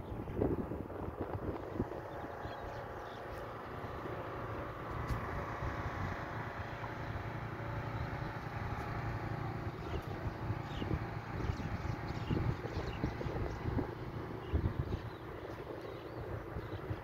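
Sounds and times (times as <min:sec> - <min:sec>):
machine hum: 0:00.0 - 0:17.0
wind buffeting microphone: 0:00.0 - 0:17.0.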